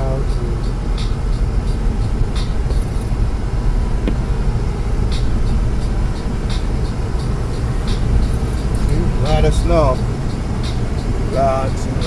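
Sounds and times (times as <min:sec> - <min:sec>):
blizzard wind rumble on microphone: 0:00.0 - 0:12.0.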